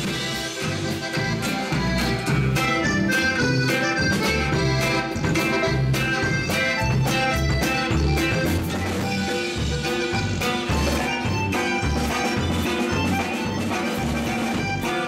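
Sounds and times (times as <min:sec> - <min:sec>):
accordion melody: 0:00.0 - 0:15.0
live band playing: 0:00.0 - 0:15.0.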